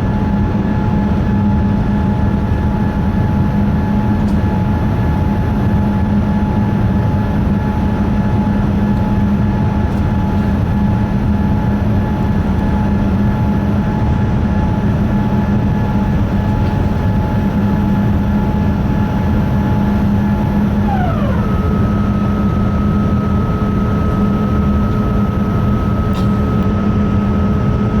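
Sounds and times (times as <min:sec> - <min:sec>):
jet airliner cabin rumble: 0:00.0 - 0:28.0.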